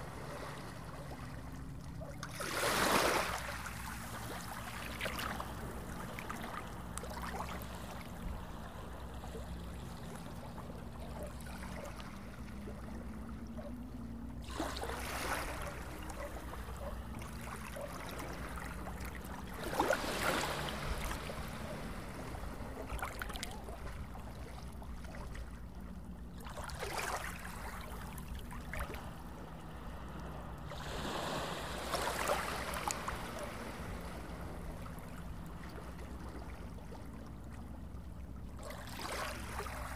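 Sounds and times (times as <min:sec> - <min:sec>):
small waves lapping on beach: 0:00.0 - 0:39.9.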